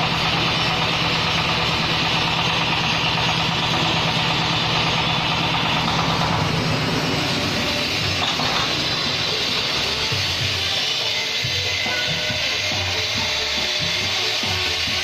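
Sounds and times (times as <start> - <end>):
press machine engine throbbing: 0.0 - 15.0.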